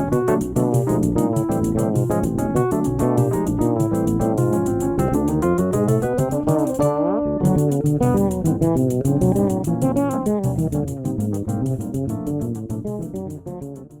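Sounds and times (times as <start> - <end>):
guitar and bass music: 0.0 - 14.0
steady ticking beat: 0.0 - 14.0.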